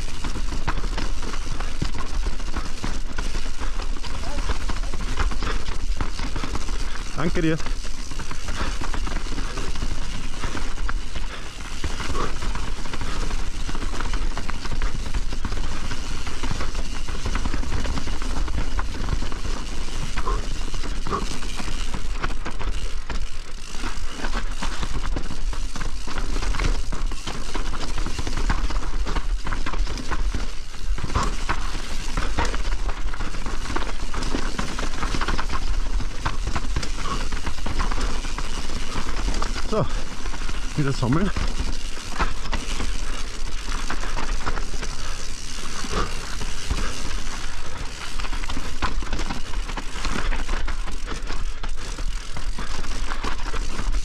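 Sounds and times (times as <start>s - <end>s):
bike clattering over rocks: 0.0s - 54.0s
bike tyre noise: 0.0s - 54.0s.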